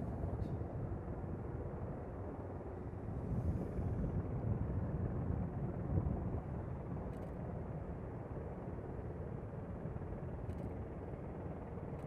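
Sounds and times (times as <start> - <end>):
helicopter rotor and turbine rumble: 0.0 - 12.0.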